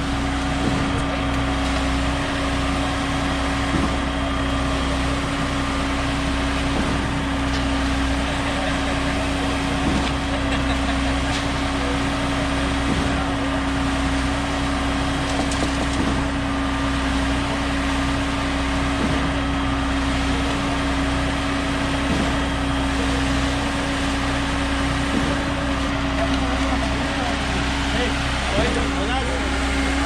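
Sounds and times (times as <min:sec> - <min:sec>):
concrete pump engine hum: 0:00.0 - 0:30.0.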